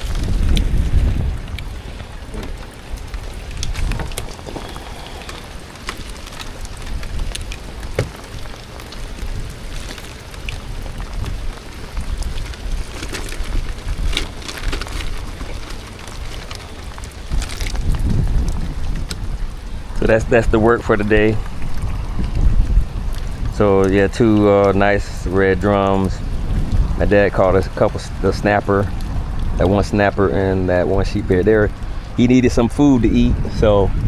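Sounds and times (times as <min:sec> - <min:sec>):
rain falling: 0:00.0 - 0:34.0
raindrops tapping close by: 0:00.0 - 0:34.0.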